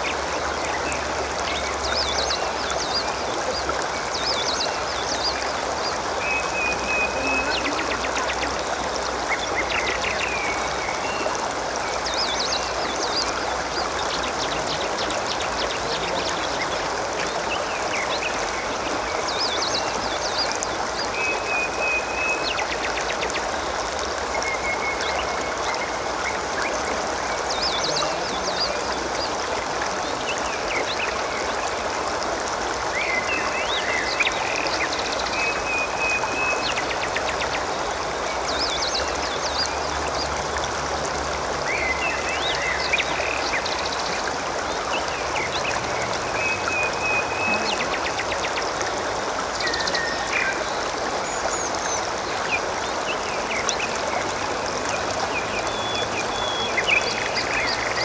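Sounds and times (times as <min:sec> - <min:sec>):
water running and gurgling: 0:00.0 - 0:58.0.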